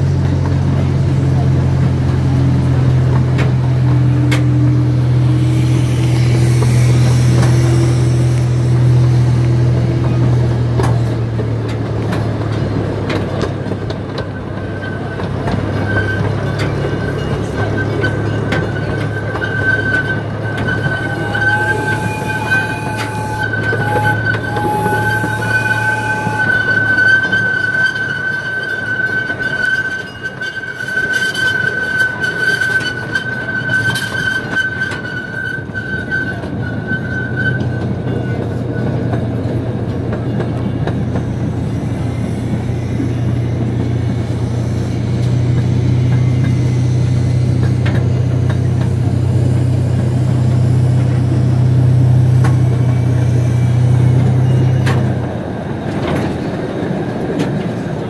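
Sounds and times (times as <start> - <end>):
miniature train engine hum: 0.0 - 58.0
train wheel squeal: 0.0 - 58.0.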